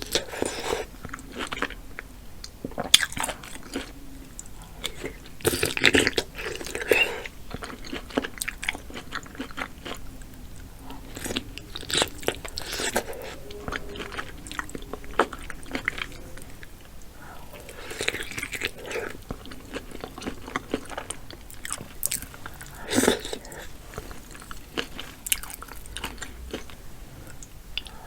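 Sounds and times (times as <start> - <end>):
chewing and biting: 0.0 - 28.0.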